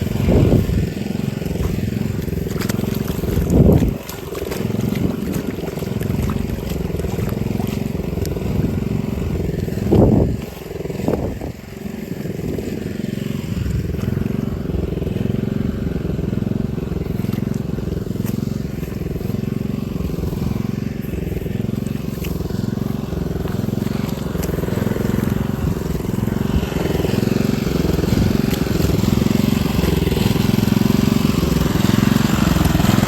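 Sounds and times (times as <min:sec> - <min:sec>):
small engine pulsing: 0:00.0 - 0:33.0.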